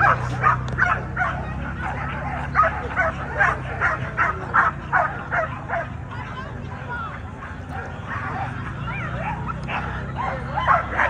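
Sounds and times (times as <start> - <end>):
dog barking: 0.0 - 6.0, 7.4 - 11.0.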